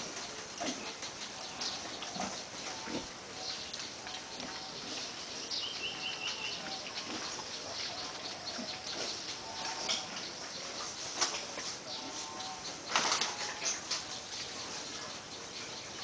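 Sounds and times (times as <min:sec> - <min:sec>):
pigs grunting and squealing: 0:00.0 - 0:15.3.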